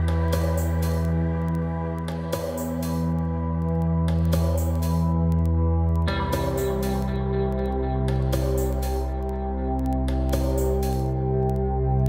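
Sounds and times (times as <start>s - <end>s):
light ticking percussion: 0.0s - 11.7s
ambient music sustained tones: 0.0s - 12.0s.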